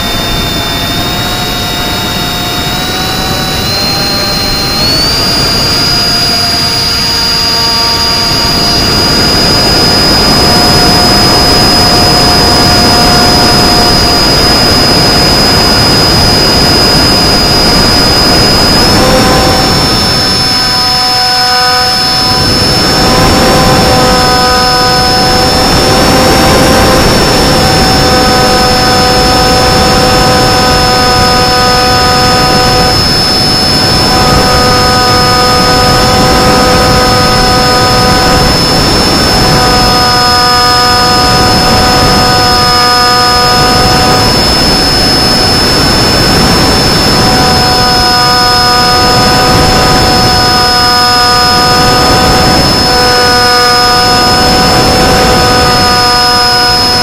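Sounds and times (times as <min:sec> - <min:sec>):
electric motor and propeller whine: 0:00.0 - 0:57.0
wind noise rushing: 0:00.0 - 0:57.0.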